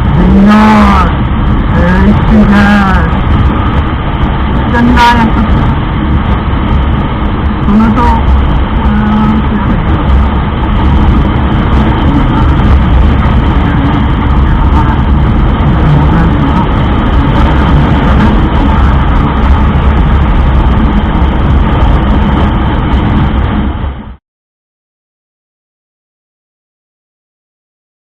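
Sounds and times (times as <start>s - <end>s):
motorcycle engine: 0.0s - 24.1s
wind on microphone: 0.0s - 24.2s.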